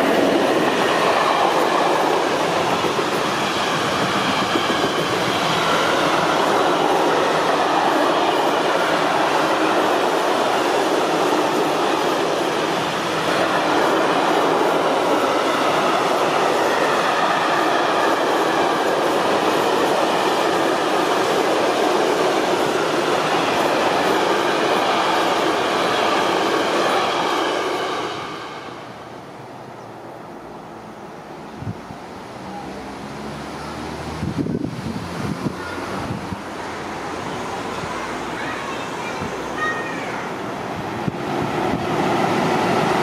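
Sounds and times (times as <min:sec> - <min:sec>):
freight train wheels on rails: 0:00.0 - 0:43.0.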